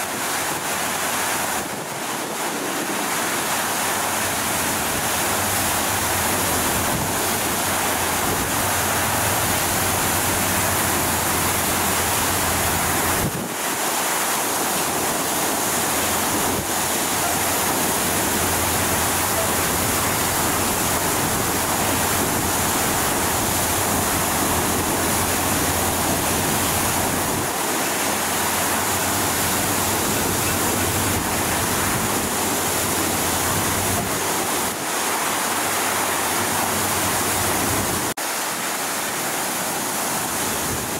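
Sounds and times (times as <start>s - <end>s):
water rushing at high pressure: 0.0s - 40.9s.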